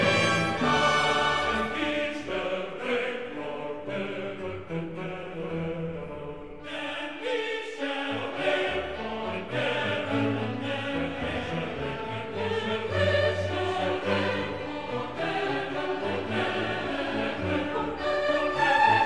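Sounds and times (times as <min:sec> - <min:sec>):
orchestral accompaniment: 0:00.0 - 0:04.1, 0:07.8 - 0:19.0
choir singing held notes: 0:00.0 - 0:19.0.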